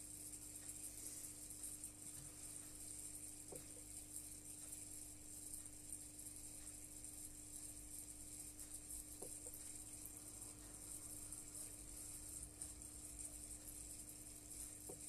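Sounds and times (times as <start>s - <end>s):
aquarium hum and hiss: 0.0s - 15.0s.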